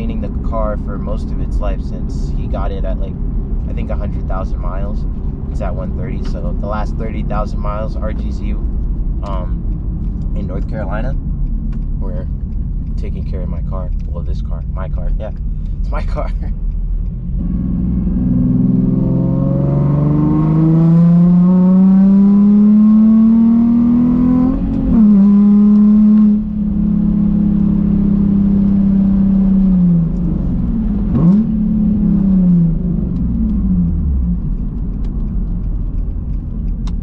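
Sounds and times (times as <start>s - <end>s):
car engine accelerating: 0.0s - 37.0s
gear change: 0.0s - 37.0s.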